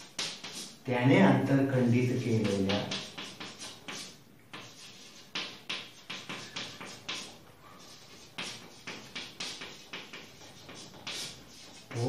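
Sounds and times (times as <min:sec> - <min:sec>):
chalk writing on blackboard: 0:00.0 - 0:00.8, 0:02.3 - 0:12.0.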